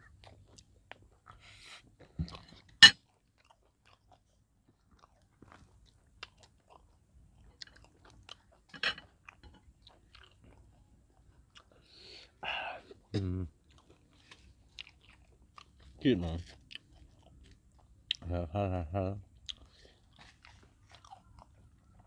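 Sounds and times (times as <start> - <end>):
soft chewing: 0.0 - 18.4, 19.2 - 22.0.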